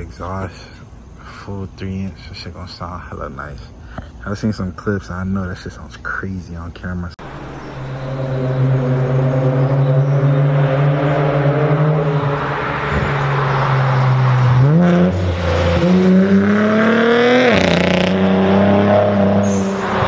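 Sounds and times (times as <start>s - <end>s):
car exhaust drone: 0.0s - 20.0s.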